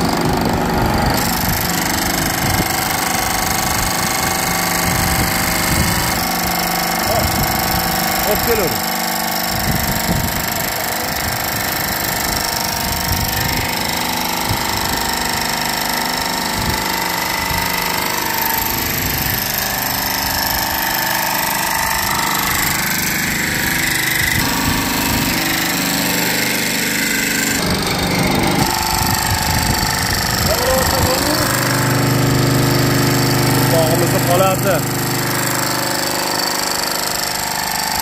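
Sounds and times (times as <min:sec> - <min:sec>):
electric motor and hydraulic pump humming: 0:00.0 - 0:38.0.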